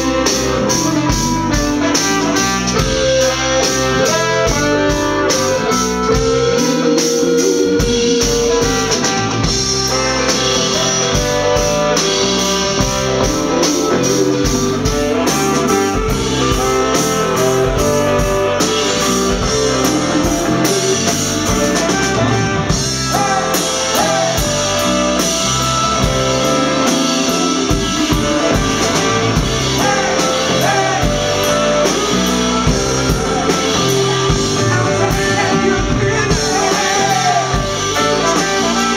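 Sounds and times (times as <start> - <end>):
bass: 0.0 - 38.9
drum kit: 0.0 - 38.9
electric guitar with bent notes: 0.0 - 38.9.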